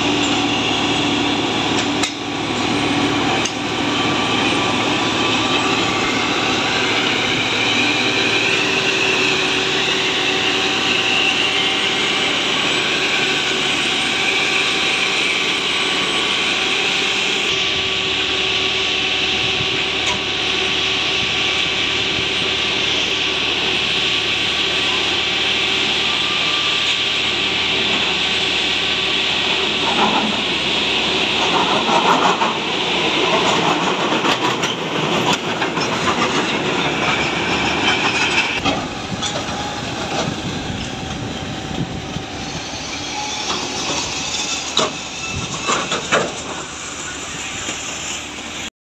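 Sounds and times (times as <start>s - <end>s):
train rolling on rails: 0.0s - 48.7s.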